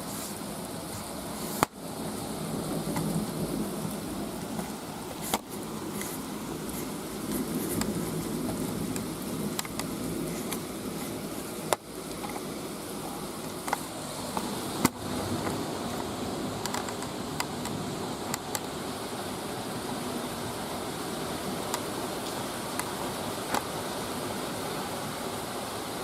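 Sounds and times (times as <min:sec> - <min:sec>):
raindrops tapping close by: 0:00.0 - 0:26.0
steady rain hiss: 0:00.0 - 0:26.0.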